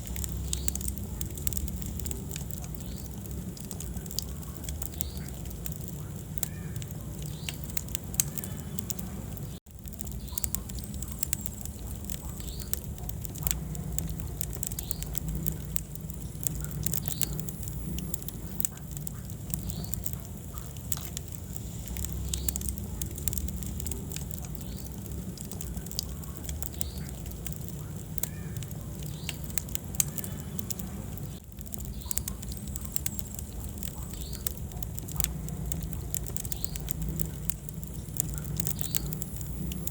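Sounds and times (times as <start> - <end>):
fire crackles and pops: 0.0 - 39.9
low rumble of flames: 0.0 - 39.9.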